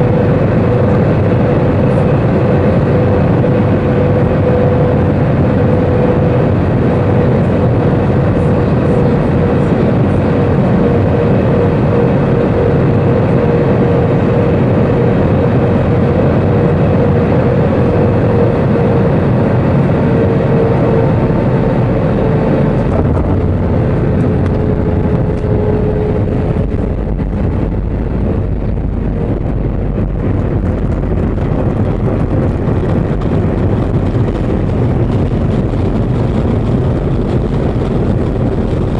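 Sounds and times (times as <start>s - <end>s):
engine whine dropping in pitch: 0.0s - 38.9s
jet engine and airflow noise: 0.0s - 38.9s.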